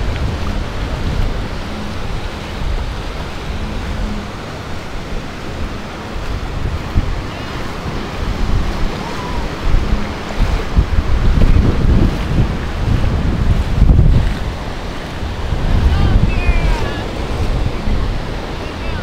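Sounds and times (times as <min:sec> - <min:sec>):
ocean surf washing ashore: 0:00.0 - 0:19.0
wind buffeting microphone: 0:00.0 - 0:19.0.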